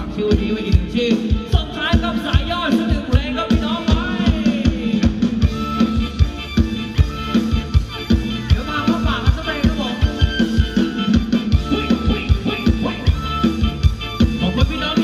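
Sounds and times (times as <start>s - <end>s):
drum kit beat: 0.0s - 15.0s
electric guitar: 0.0s - 15.0s
melodic lead line: 0.0s - 15.0s.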